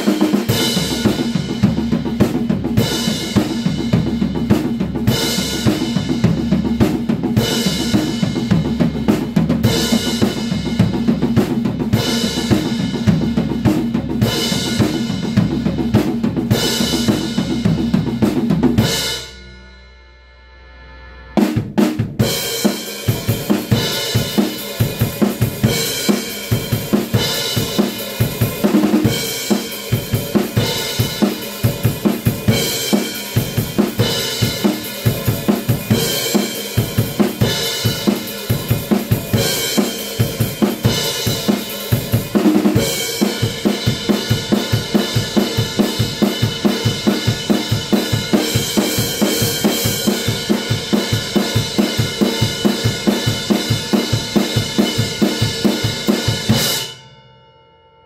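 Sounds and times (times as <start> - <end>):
rock drum kit groove: 0.0 - 19.7, 21.4 - 57.0.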